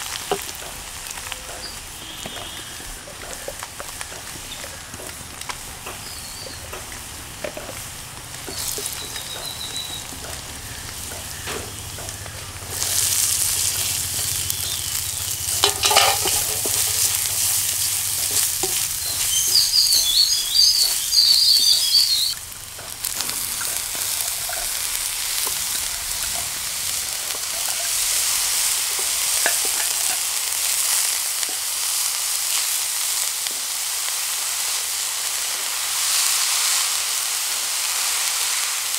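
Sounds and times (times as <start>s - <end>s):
food sizzling in oil: 0.0s - 38.9s.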